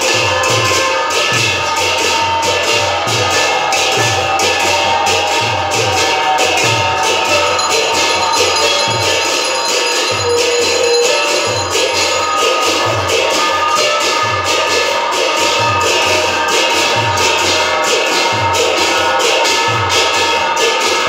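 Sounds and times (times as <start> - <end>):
low drum beats: 0.0 - 20.2
bells and cymbals clanging: 0.0 - 21.0.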